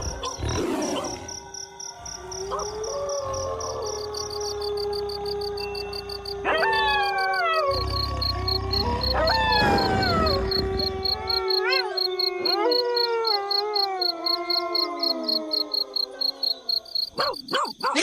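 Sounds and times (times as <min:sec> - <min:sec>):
pulsing insect chirp: 0:00.0 - 0:18.0
wolves howling: 0:02.0 - 0:17.4.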